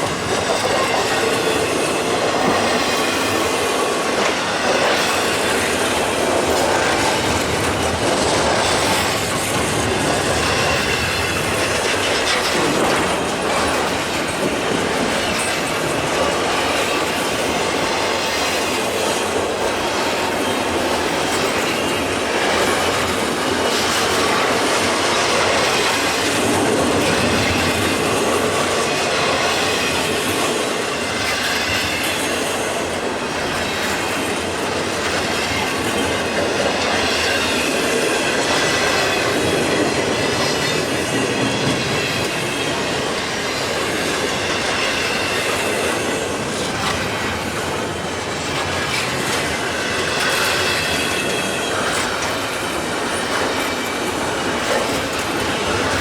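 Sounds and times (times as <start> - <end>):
train wheel squeal: 0.0 - 56.0
train wheels clattering on rails: 0.0 - 56.0.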